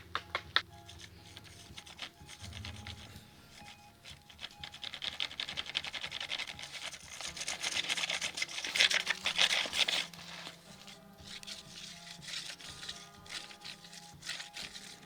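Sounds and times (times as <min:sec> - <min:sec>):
drawing tool scratching paper: 0:00.6 - 0:15.0.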